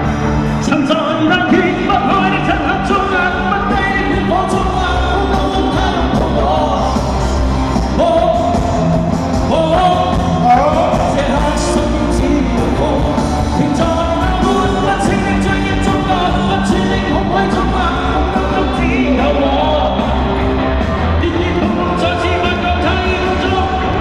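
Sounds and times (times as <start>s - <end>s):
person singing: 0.0s - 24.0s
pop-rock song with band: 0.0s - 24.0s.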